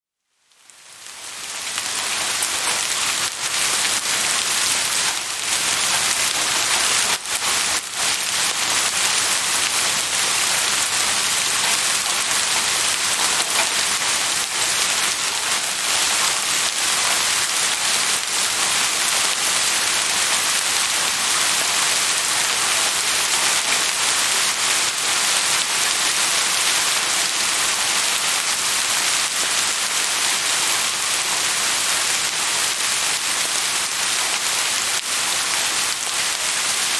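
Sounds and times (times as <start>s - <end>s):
steady rain falling: 0.4s - 36.9s.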